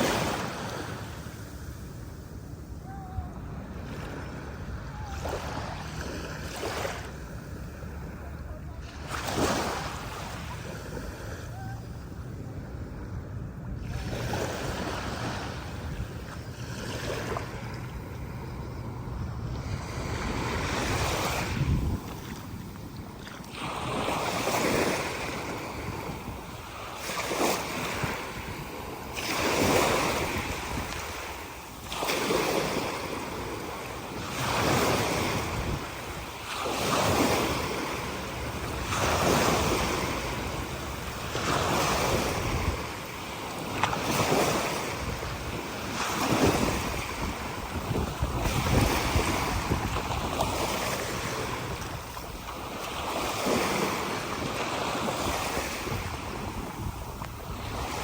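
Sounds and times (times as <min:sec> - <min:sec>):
small waves breaking on beach: 0:00.0 - 0:58.0
wind buffeting microphone: 0:00.0 - 0:58.0.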